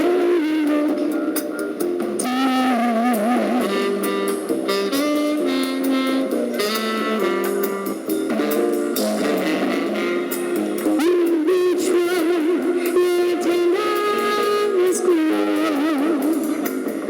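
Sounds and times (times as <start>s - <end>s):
guitar chords: 0.0s - 17.0s
jazz band playing: 0.0s - 17.0s
saxophone melody with vibrato: 0.0s - 17.0s.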